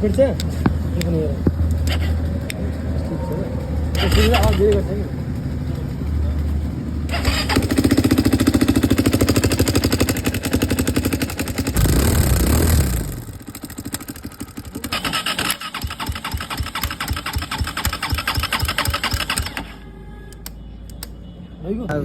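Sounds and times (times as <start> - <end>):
engine rattling clatter: 0.0 - 19.8
motorcycle engine revving: 0.0 - 19.8.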